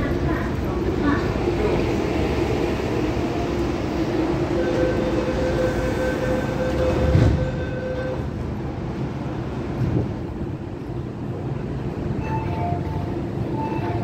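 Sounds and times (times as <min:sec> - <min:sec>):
train rail rumble: 0:00.0 - 0:14.0.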